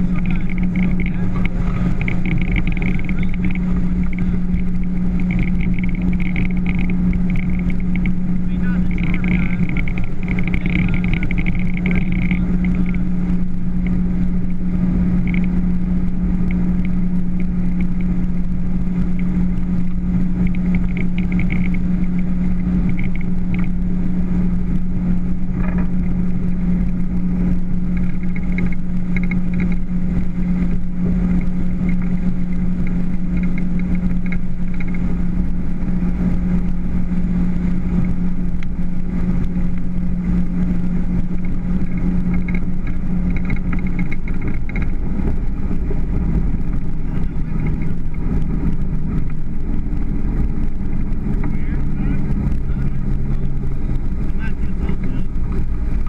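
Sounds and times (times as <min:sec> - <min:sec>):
motorboat engine droning: 0:00.0 - 0:56.0
wind and water rushing: 0:00.0 - 0:56.0.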